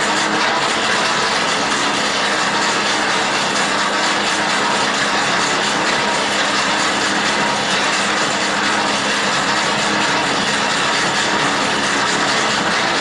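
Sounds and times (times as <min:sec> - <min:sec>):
hand-cranked blower whirring: 0:00.0 - 0:13.0.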